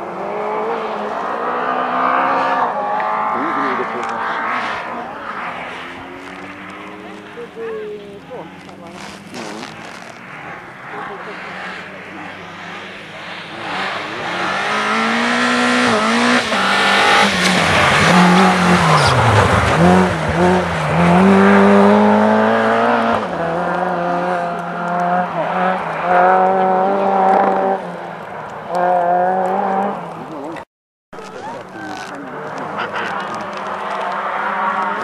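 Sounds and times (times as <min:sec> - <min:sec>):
rally car engine revving: 0:00.0 - 0:30.6, 0:31.2 - 0:35.0.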